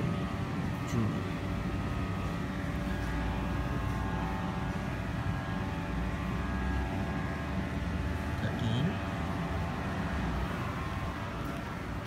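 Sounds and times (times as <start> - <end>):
mechanical drone: 0.0 - 12.0.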